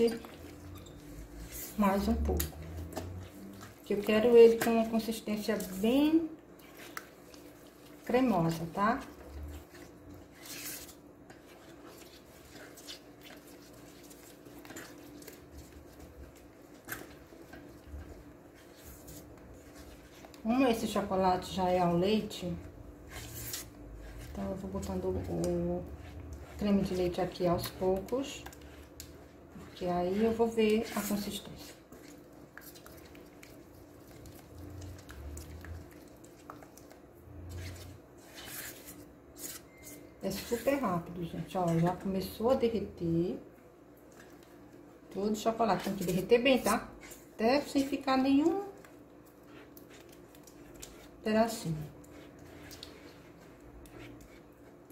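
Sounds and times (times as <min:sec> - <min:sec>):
spatula scraping and squishing: 0:00.0 - 0:43.4, 0:44.0 - 0:54.9.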